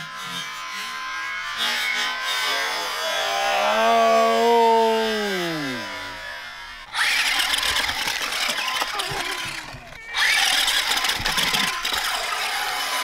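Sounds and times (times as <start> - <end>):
toy car electric motor whirring: 0.0 - 3.5, 4.2 - 13.0.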